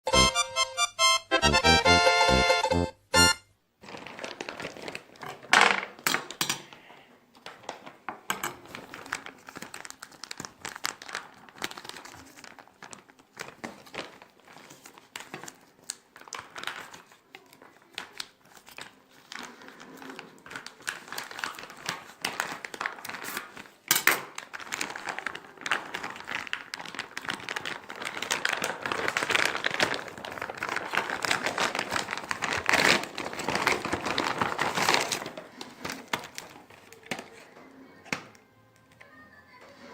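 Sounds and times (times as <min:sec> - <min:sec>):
packaging crinkling and rustling: 0:03.8 - 0:06.4, 0:07.4 - 0:38.4.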